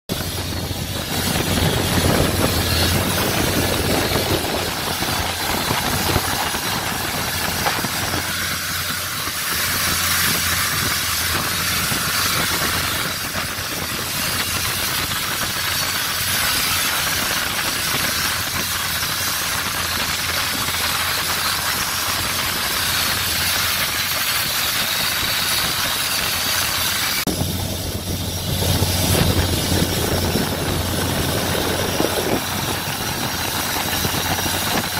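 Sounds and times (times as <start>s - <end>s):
boat engine hum: 0.0s - 34.9s
wind and water hiss: 0.1s - 34.9s.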